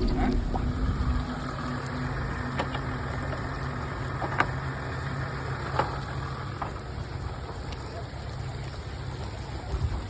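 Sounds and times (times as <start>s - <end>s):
off-road vehicle engine idling: 0.0s - 10.0s.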